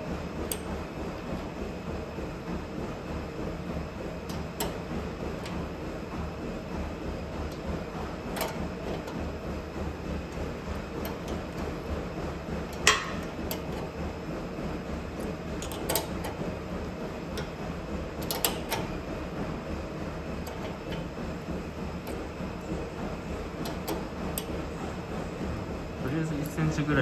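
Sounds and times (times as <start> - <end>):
treadmill droning: 0.0 - 27.0.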